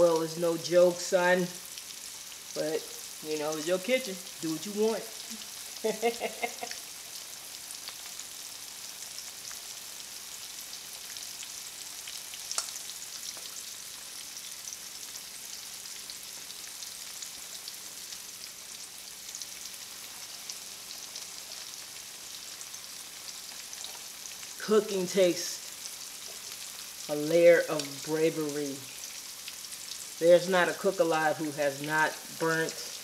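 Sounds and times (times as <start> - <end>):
deep-frying sizzle with crackling: 0.0 - 33.0.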